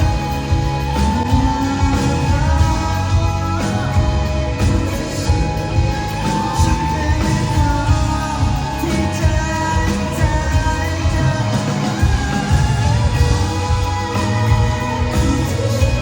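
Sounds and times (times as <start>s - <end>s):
drums and bass: 0.0s - 16.0s
guitars: 0.0s - 16.0s
person singing: 0.0s - 16.0s.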